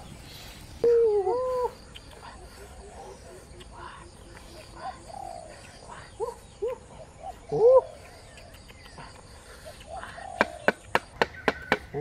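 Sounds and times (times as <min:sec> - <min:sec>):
bird calls: 0:00.0 - 0:12.0
faint outdoor background noise: 0:00.0 - 0:12.0.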